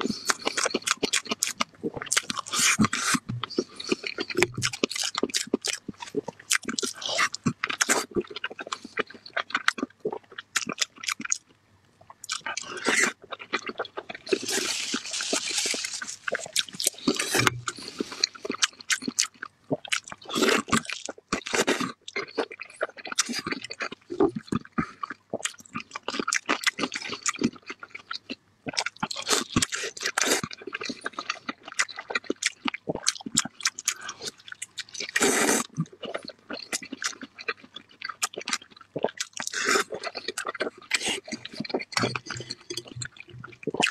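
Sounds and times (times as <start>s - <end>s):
chewing and lip-smacking: 0.0s - 43.9s.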